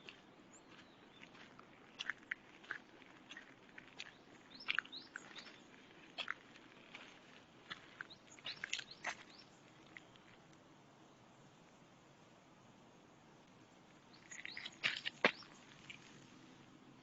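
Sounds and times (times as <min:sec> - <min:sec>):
small birds chirping: 0:00.0 - 0:10.6, 0:13.4 - 0:17.0.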